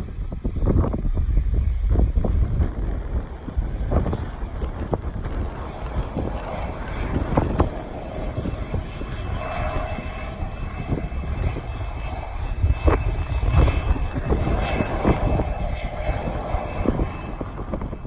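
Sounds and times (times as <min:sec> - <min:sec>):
airplane engine rumble: 0:00.0 - 0:18.0.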